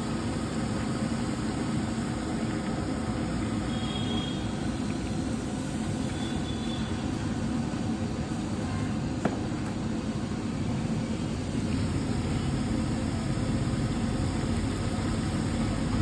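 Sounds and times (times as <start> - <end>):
potato slices deep-frying in oil: 0.0 - 16.0.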